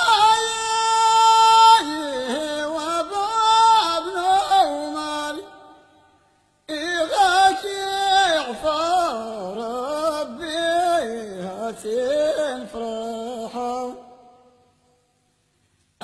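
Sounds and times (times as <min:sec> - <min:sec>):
person singing unaccompanied: 0:00.0 - 0:05.6, 0:06.7 - 0:14.1.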